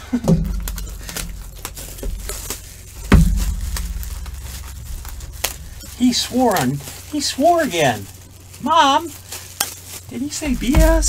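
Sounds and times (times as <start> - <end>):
heavy thumps: 0.0 - 11.0.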